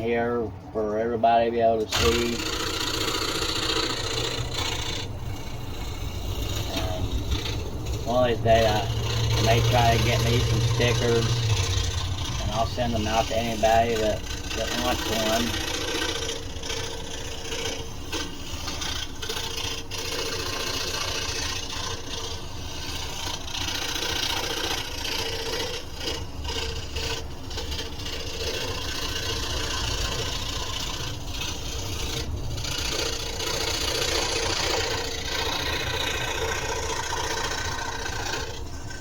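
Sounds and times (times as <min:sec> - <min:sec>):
scroll saw cutting wood: 0:00.0 - 0:39.0.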